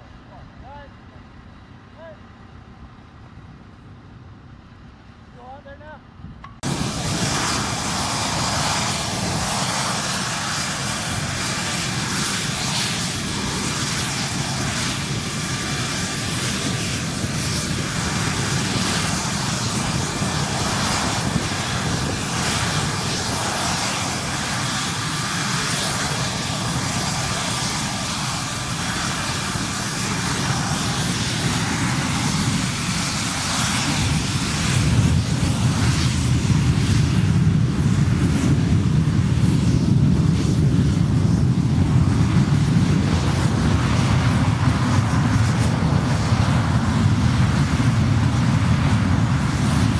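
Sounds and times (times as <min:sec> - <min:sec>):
jet engine running: 0:05.4 - 0:49.9.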